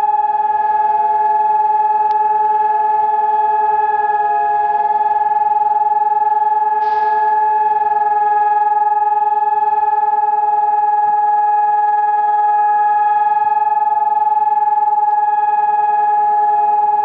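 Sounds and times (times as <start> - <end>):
siren holding steady tone: 0.0 - 17.0.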